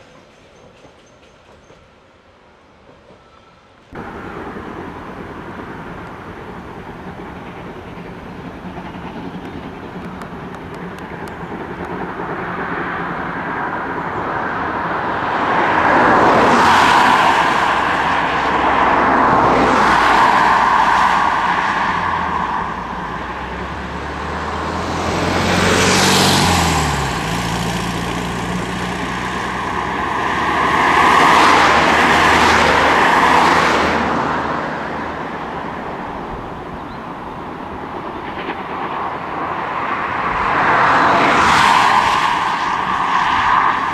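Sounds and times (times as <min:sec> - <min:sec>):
vehicles passing by: 0:03.9 - 0:43.9.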